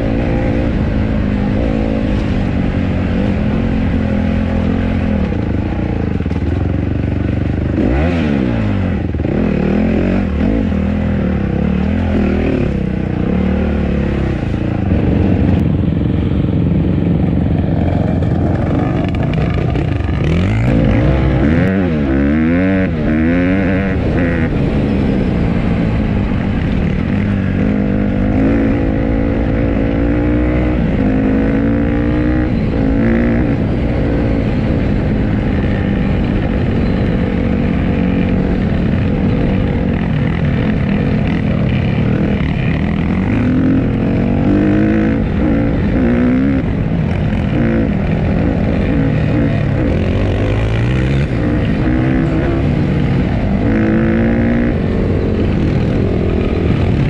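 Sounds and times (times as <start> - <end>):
dirt bike engine revving: 0.0 - 15.6, 16.8 - 57.0.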